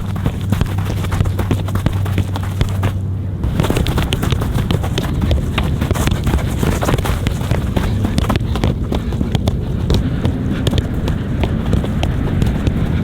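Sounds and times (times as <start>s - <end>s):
soccer ball dribbling taps: 0.0s - 13.0s
steady low rumble: 0.0s - 13.0s.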